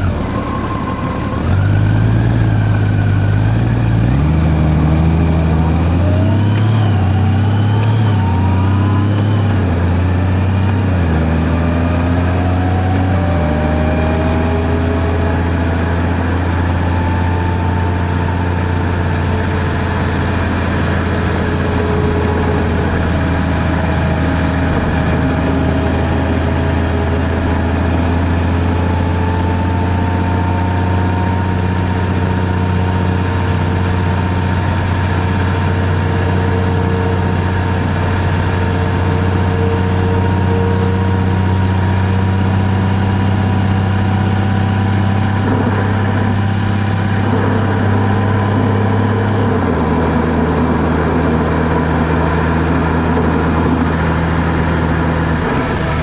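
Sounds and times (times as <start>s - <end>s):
car engine and road drone: 0.0s - 56.0s.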